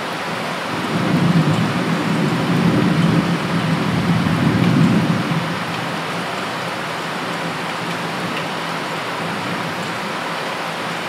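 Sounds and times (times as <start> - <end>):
torrential rain pouring: 0.0 - 11.0.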